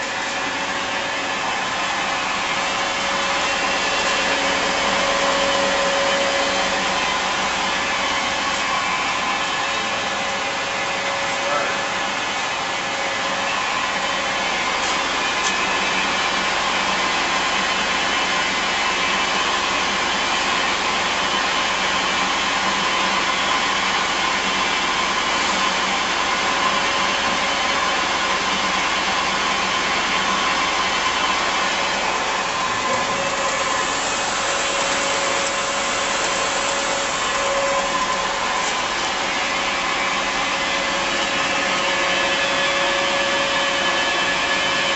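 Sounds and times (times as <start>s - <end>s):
lathe running: 0.0s - 44.9s.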